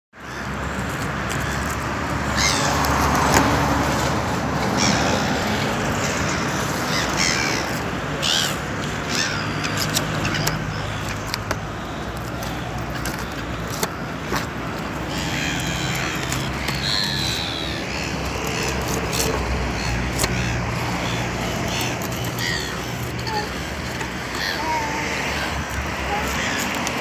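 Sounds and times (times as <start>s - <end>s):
crow-like bird caws: 1.4s - 3.7s, 4.7s - 12.8s, 15.0s - 27.0s.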